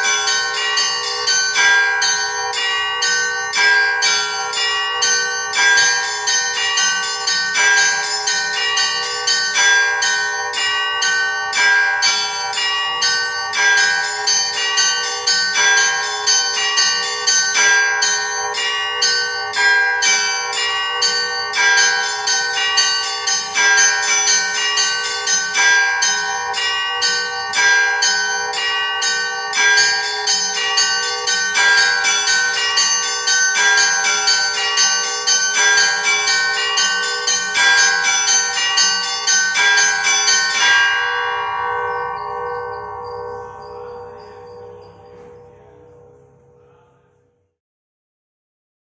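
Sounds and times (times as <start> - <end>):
small church bells ringing rapidly: 0.0 - 47.2
large bells sustained tones: 0.0 - 47.3.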